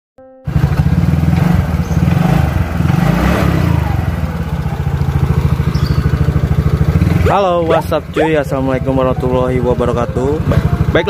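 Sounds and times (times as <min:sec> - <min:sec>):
scooter engine running: 0:00.4 - 0:11.0.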